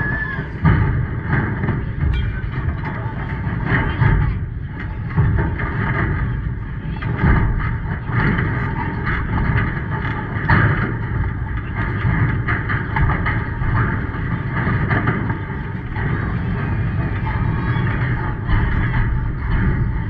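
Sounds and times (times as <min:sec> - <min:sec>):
steady low rumble: 0:00.0 - 0:20.0
indistinct background voices: 0:01.4 - 0:20.0.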